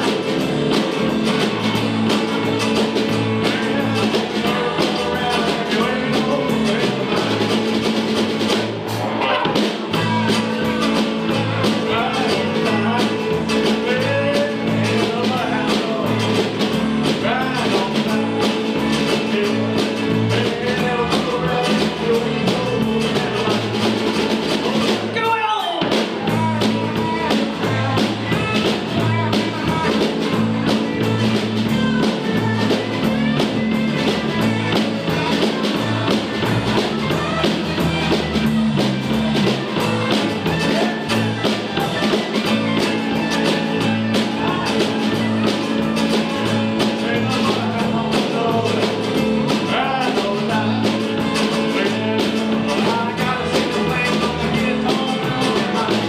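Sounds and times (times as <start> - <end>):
guitar: 0.0 - 56.0
rock and roll band playing: 0.0 - 56.0
steady drum beat: 0.0 - 56.0.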